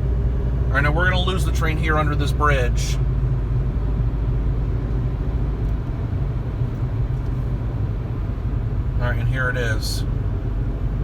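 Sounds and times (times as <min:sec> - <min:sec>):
road and engine rumble inside car: 0:00.0 - 0:11.0.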